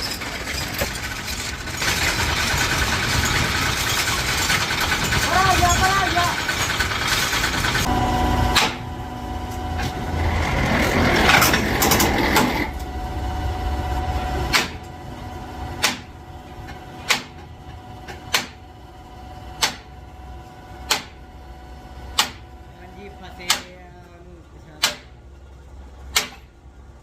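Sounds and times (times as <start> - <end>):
harsh machine noise: 0.0 - 27.0.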